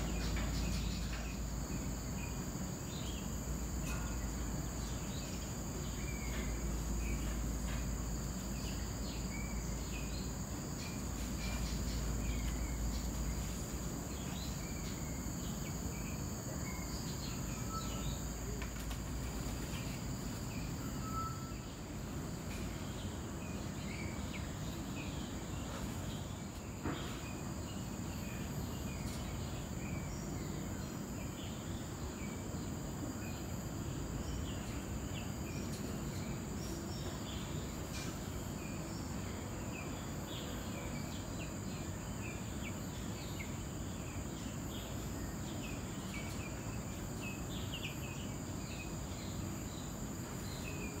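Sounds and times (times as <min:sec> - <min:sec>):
high-pitched insect-like hum: 0:00.0 - 0:51.0.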